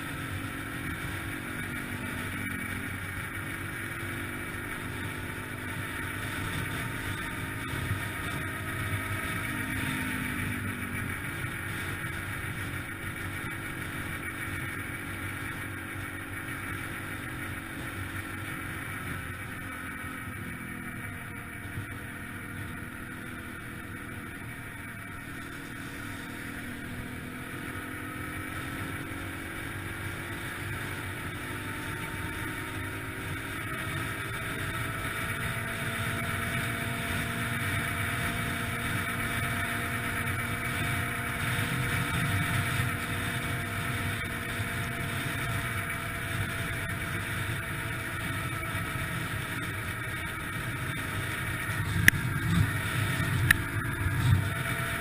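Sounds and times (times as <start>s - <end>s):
dirt bike engine accelerating: 0.0s - 55.0s.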